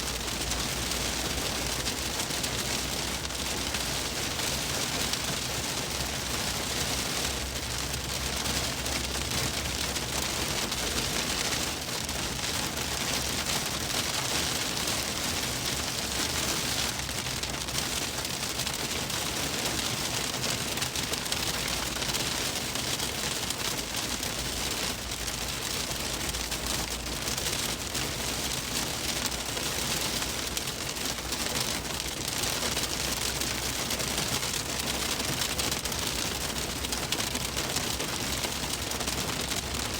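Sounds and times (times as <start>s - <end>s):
rain pelting car roof: 0.0s - 39.9s.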